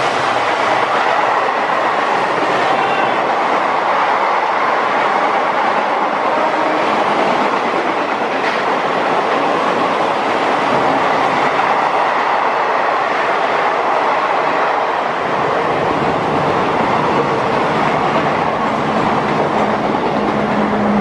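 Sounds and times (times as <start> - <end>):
passenger train rumbling past: 0.0 - 21.0.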